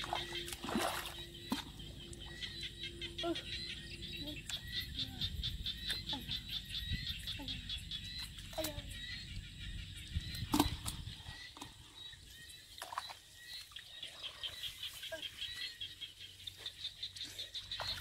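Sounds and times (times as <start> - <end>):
muddy water splashing: 0.0 - 9.3, 10.2 - 18.0.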